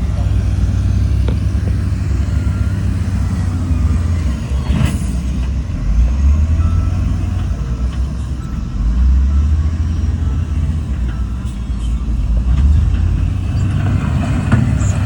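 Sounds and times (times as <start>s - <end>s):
heavy diesel machinery rumbling: 0.0s - 15.0s.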